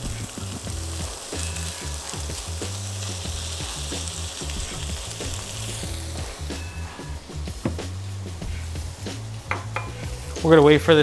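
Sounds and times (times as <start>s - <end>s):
bacon sizzling in a pan: 0.0s - 11.0s.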